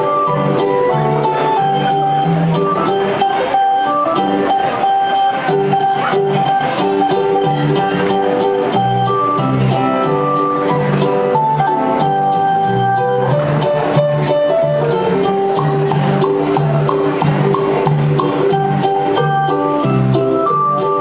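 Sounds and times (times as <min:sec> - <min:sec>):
dance music with steady beat: 0:00.0 - 0:21.0.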